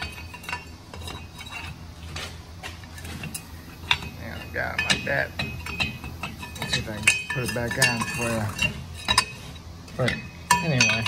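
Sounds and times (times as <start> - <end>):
metal brake parts clinking: 0.0 - 11.0.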